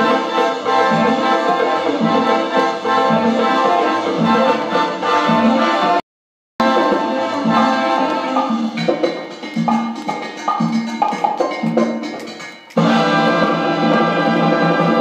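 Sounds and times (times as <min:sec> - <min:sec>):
music from vinyl record: 0:00.0 - 0:06.0, 0:06.6 - 0:15.0.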